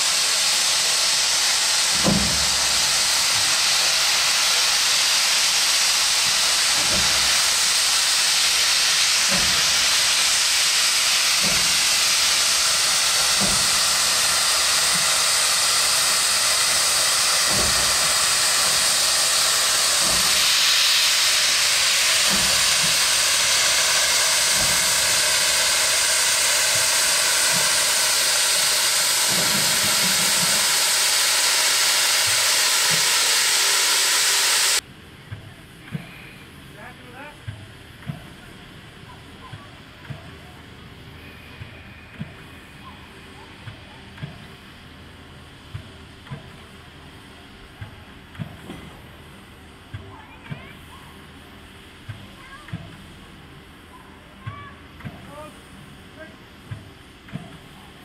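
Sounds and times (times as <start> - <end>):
steam locomotive hissing: 0.0 - 58.0.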